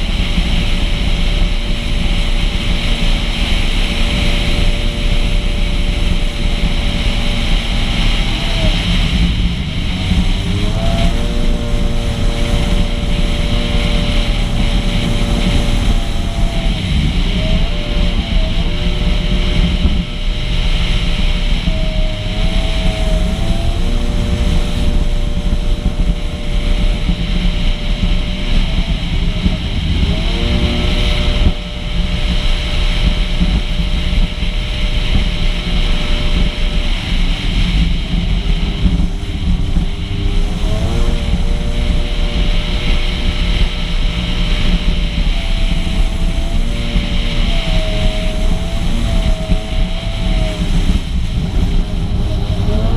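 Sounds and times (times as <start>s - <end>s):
personal watercraft engine: 0.0s - 52.9s
rushing water: 0.0s - 52.9s
wind on microphone: 0.0s - 52.9s.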